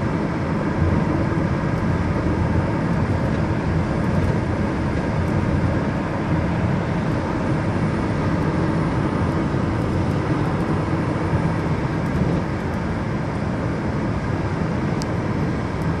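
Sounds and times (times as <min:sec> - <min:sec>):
car driving on highway: 0:00.0 - 0:16.0.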